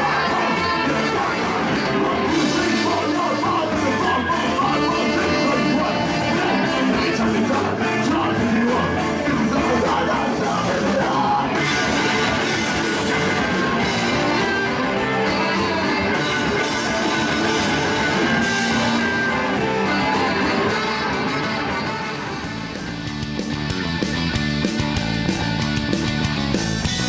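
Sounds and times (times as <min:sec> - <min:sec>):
person singing: 0:00.0 - 0:22.6
brass section: 0:00.0 - 0:23.2
bass and drums: 0:00.0 - 0:27.0
distorted electric guitars: 0:00.0 - 0:27.0.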